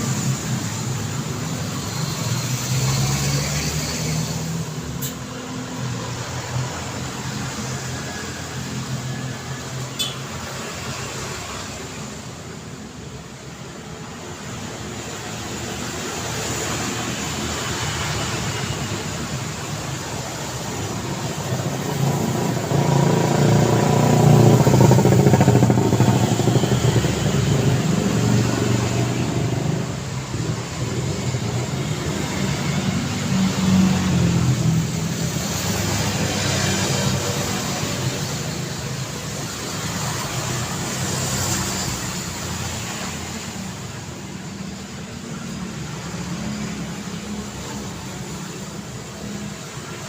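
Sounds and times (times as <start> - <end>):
cars driving past: 0.0 - 50.0.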